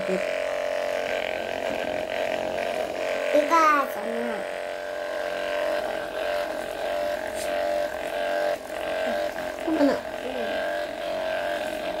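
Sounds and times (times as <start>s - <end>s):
massage gun motor hum: 0.0s - 12.0s.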